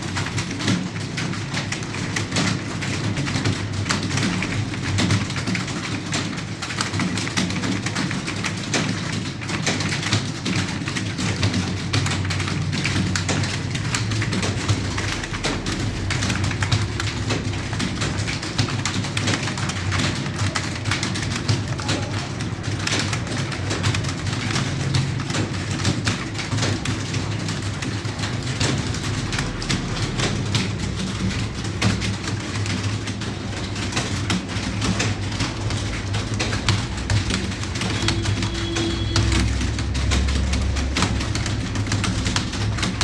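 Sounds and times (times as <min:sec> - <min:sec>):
keyboards clattering: 0:00.0 - 0:43.0.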